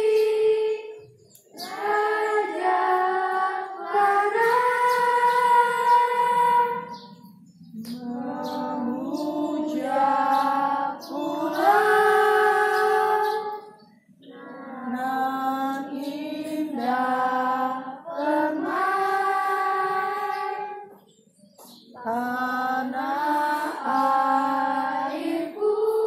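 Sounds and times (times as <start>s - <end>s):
children singing in unison: 0.0s - 21.1s, 21.7s - 26.0s.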